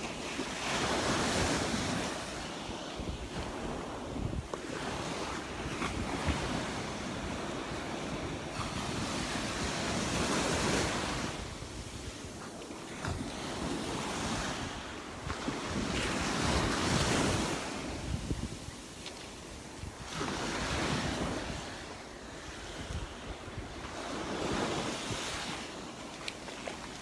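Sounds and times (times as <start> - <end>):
wind buffeting microphone: 0.8 - 25.9.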